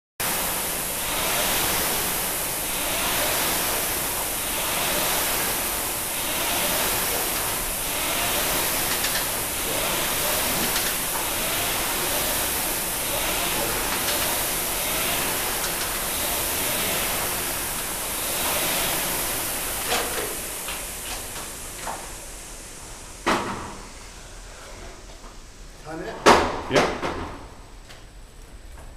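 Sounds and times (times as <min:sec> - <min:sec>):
rowing machine fans whirring: 0:00.2 - 0:28.9.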